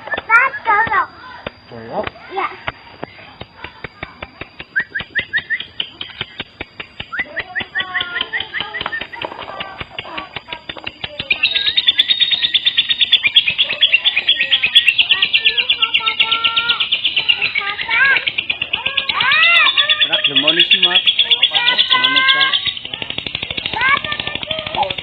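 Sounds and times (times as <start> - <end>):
lovebirds chirping and trilling: 0.0 - 25.0.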